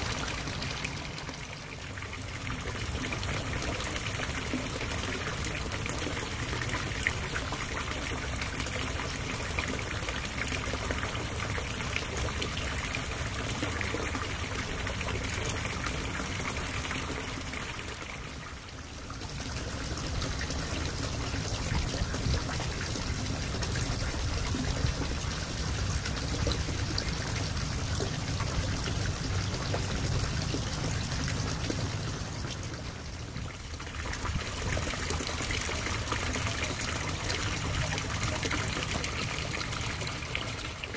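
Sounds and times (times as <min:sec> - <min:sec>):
water pouring into pond: 0:00.0 - 0:40.9.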